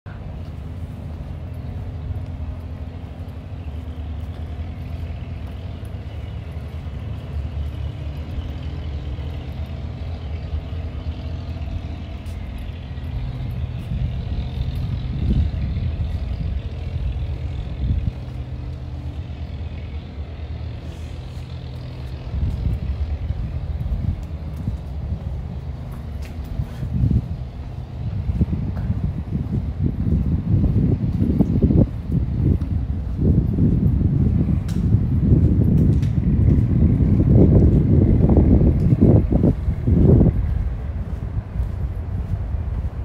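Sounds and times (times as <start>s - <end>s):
footsteps on stone paving: 0.1s - 20.0s, 20.6s - 43.0s
low engine rumble: 0.1s - 43.0s.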